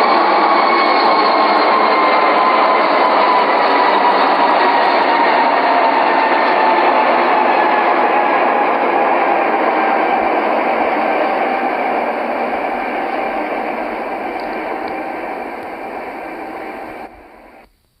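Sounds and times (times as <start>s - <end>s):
steady rushing noise: 0.0s - 17.7s.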